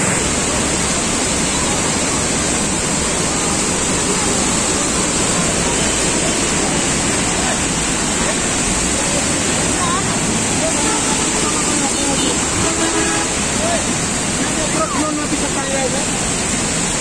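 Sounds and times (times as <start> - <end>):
flood water rushing: 0.0 - 17.0.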